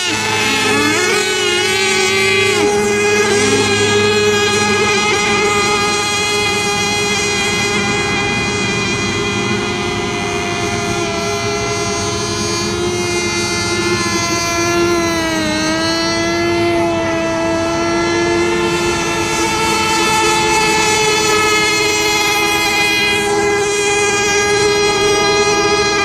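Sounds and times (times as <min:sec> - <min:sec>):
model boat engines whining: 0:00.0 - 0:26.0.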